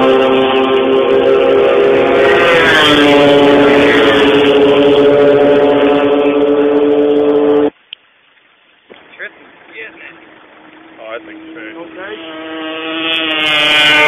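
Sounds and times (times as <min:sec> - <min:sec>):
motorcycle engine at high revs: 0:00.0 - 0:07.7, 0:09.8 - 0:14.0.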